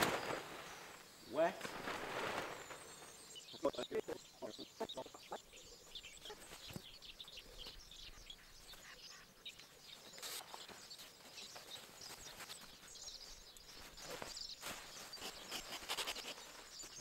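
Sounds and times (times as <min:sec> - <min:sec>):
faint woodland birdsong: 0:00.0 - 0:17.0.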